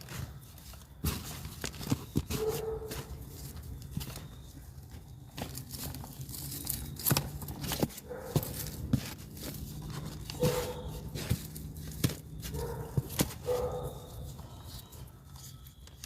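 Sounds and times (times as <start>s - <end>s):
hands rustling dry mulch: 0.0s - 16.0s.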